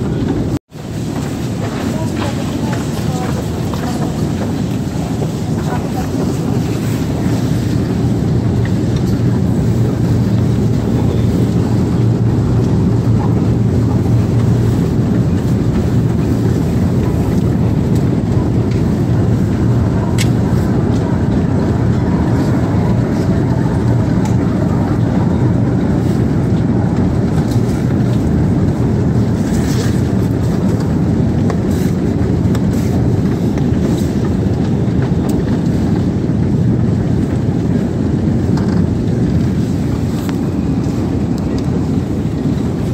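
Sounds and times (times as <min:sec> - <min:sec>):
escalator hum and rumble: 0:00.0 - 0:42.9.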